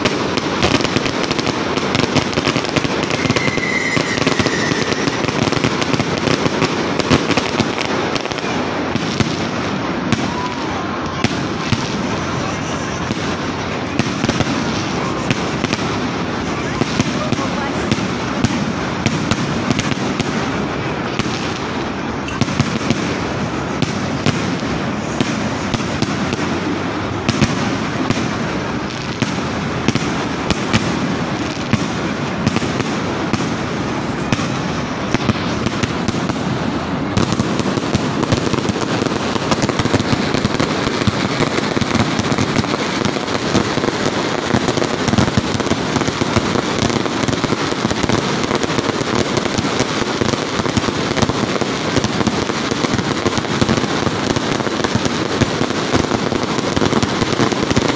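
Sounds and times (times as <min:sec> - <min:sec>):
fireworks crackling: 0:00.0 - 0:57.9
fireworks shells bursting: 0:00.0 - 0:57.9.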